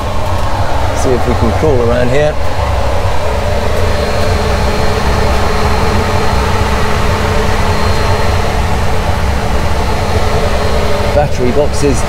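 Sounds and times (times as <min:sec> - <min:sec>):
engine room machinery drone: 0:00.0 - 0:12.0
faint high whine: 0:00.0 - 0:12.0.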